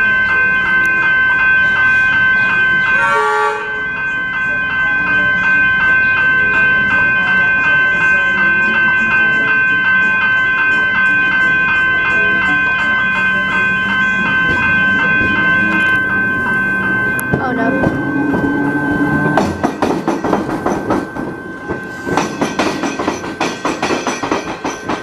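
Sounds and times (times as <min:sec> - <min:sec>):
level crossing bell ringing: 0:00.0 - 0:25.0.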